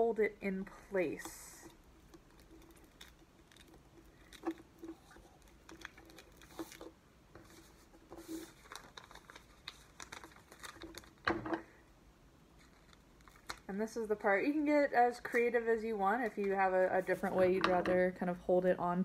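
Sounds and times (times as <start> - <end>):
plastic contact paper crinkling: 1.2 - 11.4, 12.5 - 17.9.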